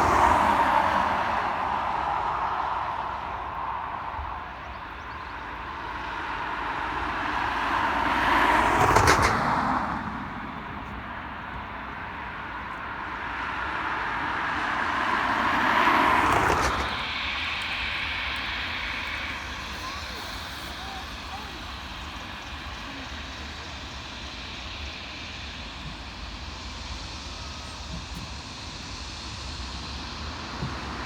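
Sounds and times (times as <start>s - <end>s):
vehicles passing close by: 0.0s - 31.0s.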